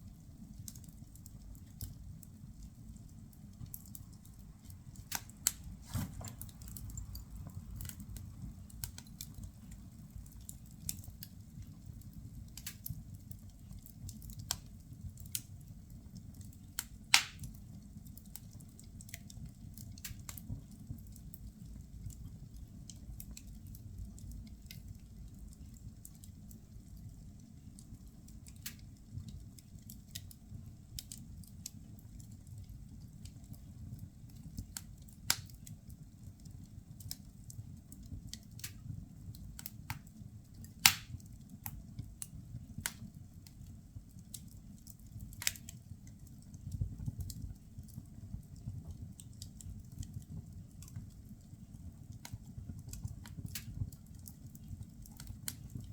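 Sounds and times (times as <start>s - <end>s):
firewood crackling and popping: 0.0s - 55.9s
low rumble of fire: 0.0s - 55.9s.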